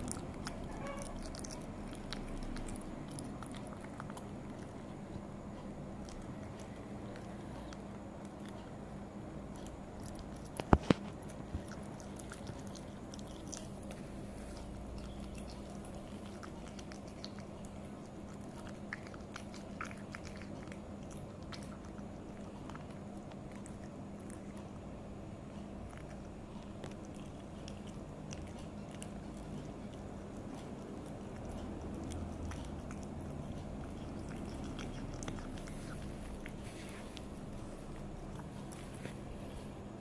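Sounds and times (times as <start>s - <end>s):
cat chewing raw meat: 0.0s - 40.0s
steady low hum: 0.0s - 40.0s.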